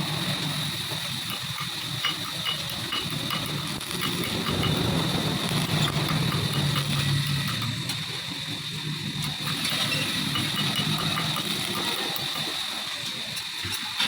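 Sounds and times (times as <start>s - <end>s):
high whine: 0.0s - 14.0s
machine humming: 0.0s - 14.0s.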